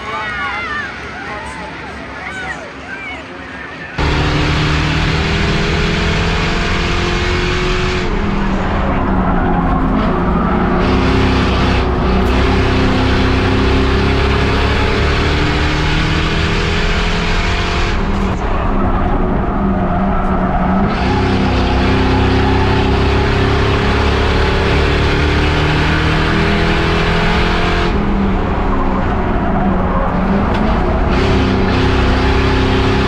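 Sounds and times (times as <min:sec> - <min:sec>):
race car engine revving: 0:04.0 - 0:33.0.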